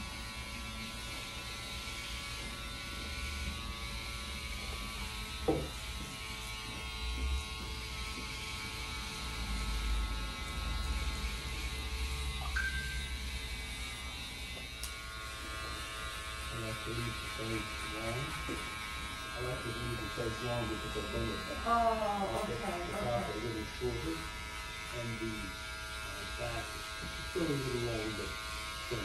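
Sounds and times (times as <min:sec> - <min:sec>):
electric hair clippers buzzing: 0:00.0 - 0:29.0.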